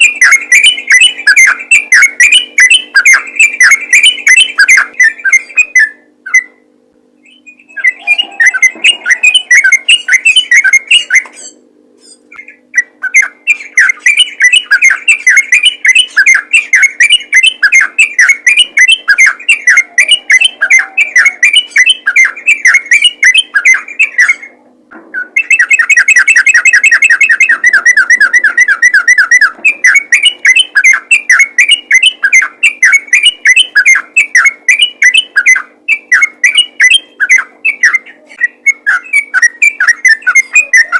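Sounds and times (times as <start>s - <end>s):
bird chattering song: 0.0s - 40.9s
faint steady hum: 0.0s - 40.9s.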